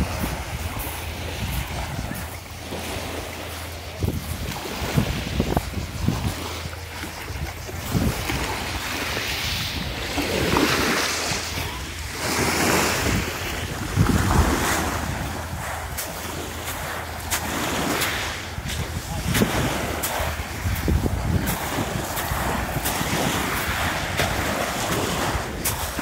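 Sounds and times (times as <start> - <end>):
sea waves washing on shore: 0.0 - 26.0
wind rumble on microphone: 0.0 - 26.0.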